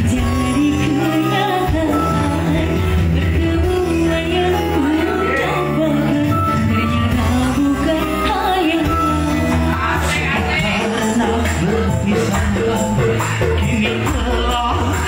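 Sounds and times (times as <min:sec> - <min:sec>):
low bass notes: 0:00.0 - 0:15.0
small band playing: 0:00.0 - 0:15.0
woman singing through microphone: 0:00.0 - 0:15.0.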